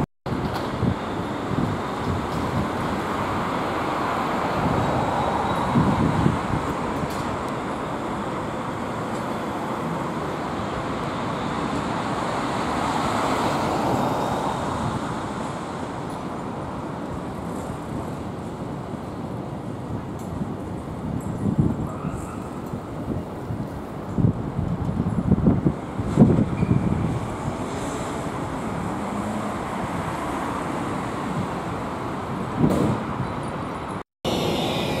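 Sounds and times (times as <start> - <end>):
city traffic: 0.0 - 35.0
vehicles passing: 0.0 - 35.0.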